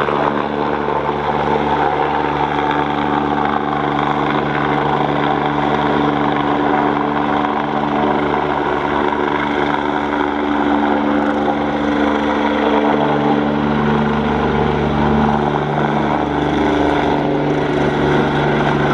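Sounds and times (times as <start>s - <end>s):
helicopter rotor and turbine noise: 0.0s - 18.9s.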